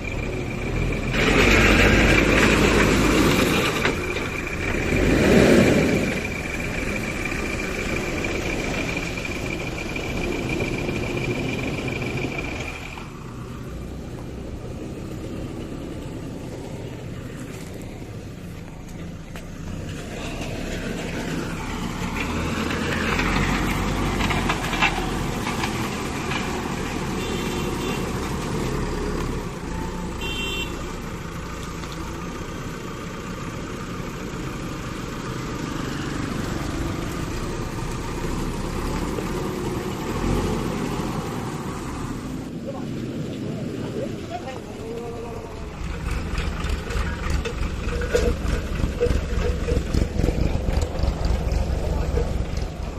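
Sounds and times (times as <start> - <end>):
vehicle engines rumbling: 0.0 - 52.9.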